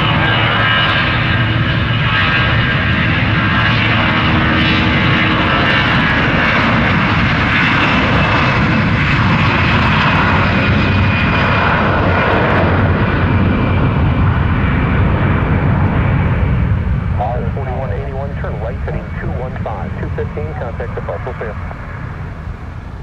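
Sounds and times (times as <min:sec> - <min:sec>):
airliner jet engines passing: 0:00.0 - 0:23.0.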